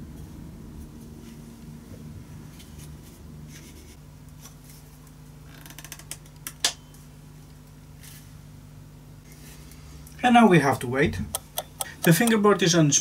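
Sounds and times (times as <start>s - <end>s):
steady low hum: 0.0s - 5.5s, 6.6s - 13.0s.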